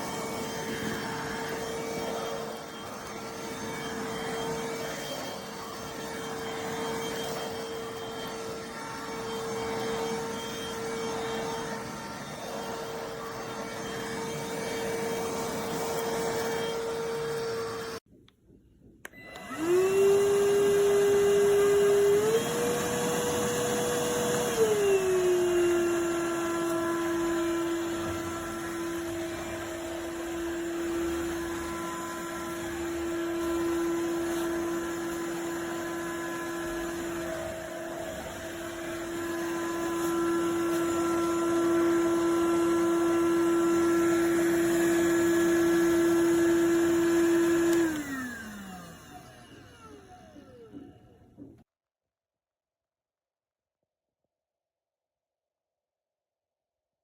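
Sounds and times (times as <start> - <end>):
vacuum motor whining: 0.0 - 18.1, 19.0 - 51.6.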